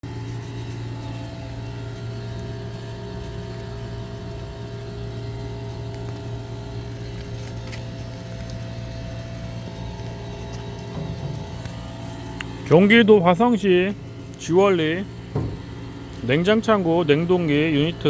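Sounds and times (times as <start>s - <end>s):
refrigeration unit humming: 0.0s - 18.0s.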